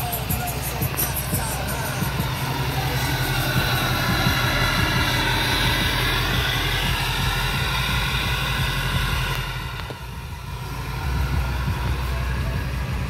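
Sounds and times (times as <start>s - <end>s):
diesel engine clatter with whine: 0.0s - 13.0s.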